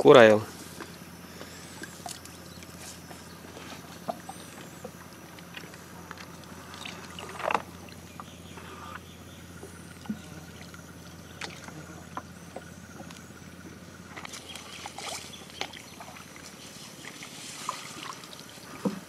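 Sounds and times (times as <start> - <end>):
steady low hum: 0.0 - 19.0
water splashing: 1.4 - 8.3, 9.6 - 13.0, 13.9 - 19.0.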